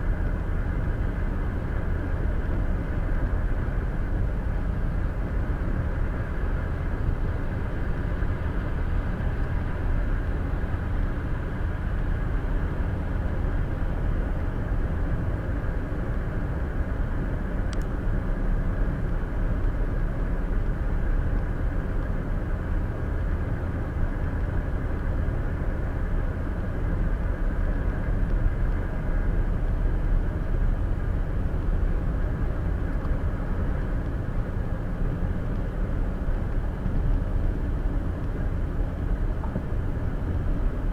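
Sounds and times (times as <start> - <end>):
car road noise from inside cabin: 0.1 - 40.9.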